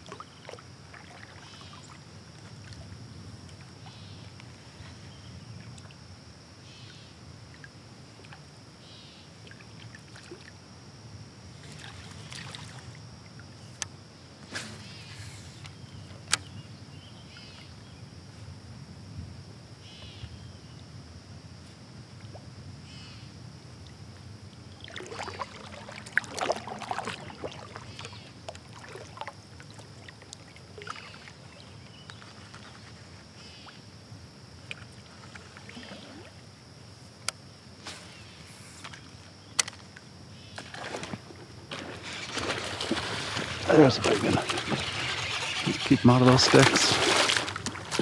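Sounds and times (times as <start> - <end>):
water lapping around kayak: 0.0 - 18.6, 21.6 - 48.0.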